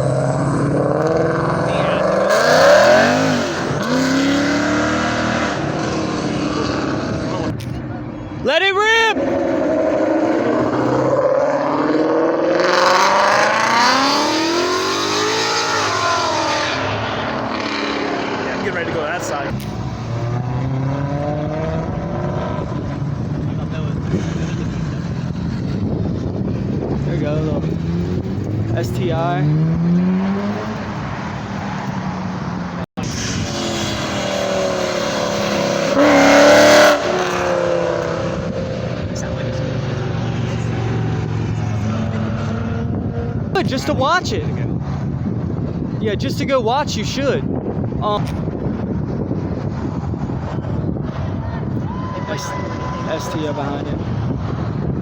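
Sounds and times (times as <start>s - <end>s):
car engine revving: 0.0s - 8.4s, 9.1s - 46.2s.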